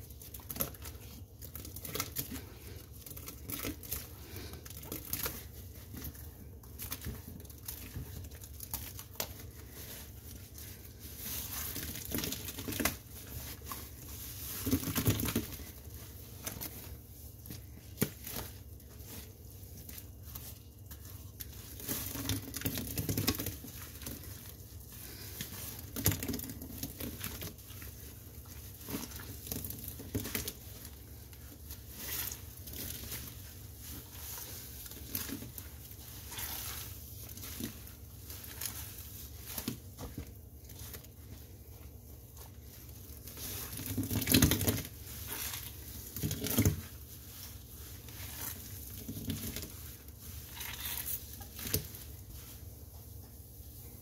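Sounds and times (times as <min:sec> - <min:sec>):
soapy sponge being squeezed: 0:00.0 - 0:54.0.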